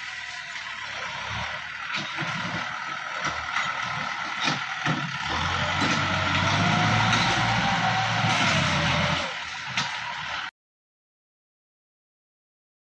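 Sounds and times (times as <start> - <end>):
blade pushing soil: 0.0 - 10.4
tractor diesel engine working: 0.0 - 10.5
whining tone: 0.0 - 10.5.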